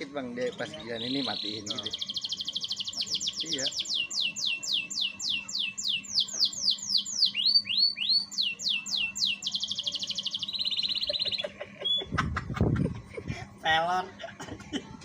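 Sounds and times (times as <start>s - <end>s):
canary singing: 0.0s - 12.2s.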